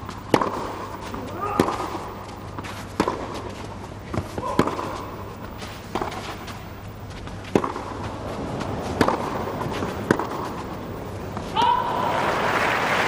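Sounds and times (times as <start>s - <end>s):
rackets striking tennis ball: 0.0s - 12.1s.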